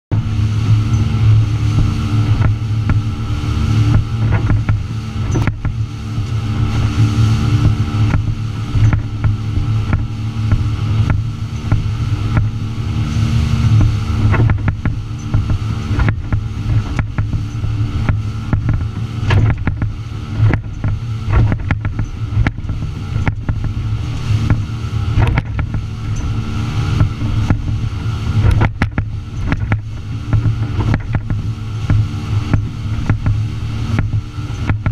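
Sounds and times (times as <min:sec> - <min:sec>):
boat engines droning: 0:00.1 - 0:34.9
hull slapping through waves: 0:00.1 - 0:34.9
wind and spray rushing: 0:00.1 - 0:34.9.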